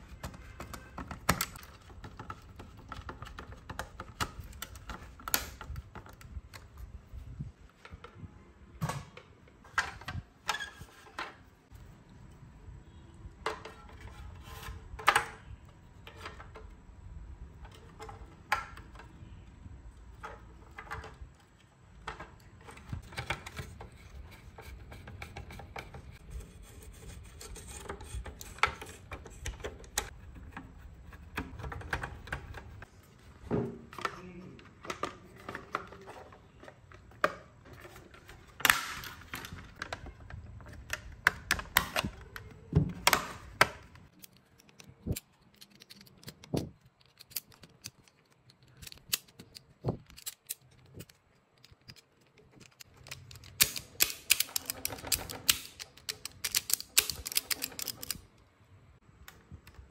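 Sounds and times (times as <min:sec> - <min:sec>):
plastic and metal parts clicking: 0:00.0 - 0:11.4, 0:17.4 - 0:32.9, 0:33.9 - 0:58.5.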